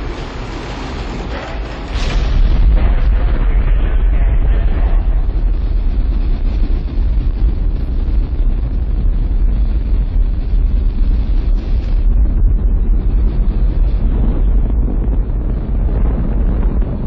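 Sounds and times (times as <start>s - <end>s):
rocket engines deep rumble: 0.0s - 17.0s.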